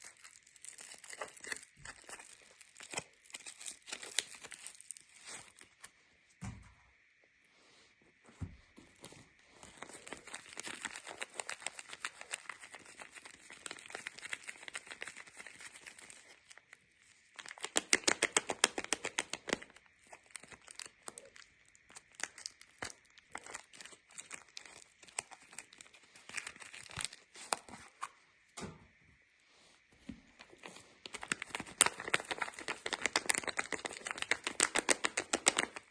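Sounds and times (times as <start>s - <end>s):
wrapper tearing: 0.0s - 5.8s, 9.6s - 28.1s, 30.4s - 35.9s
wrapper crinkling: 0.0s - 6.0s, 9.0s - 28.1s, 30.4s - 35.9s.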